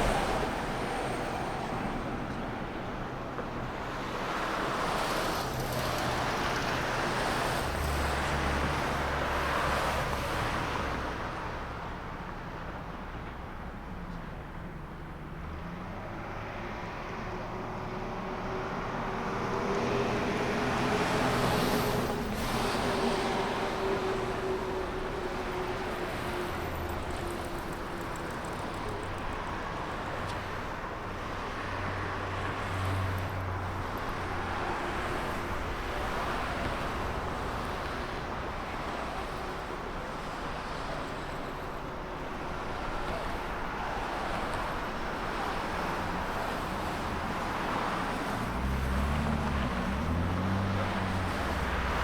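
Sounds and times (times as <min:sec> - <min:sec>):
cars passing by: 0:00.0 - 0:52.0.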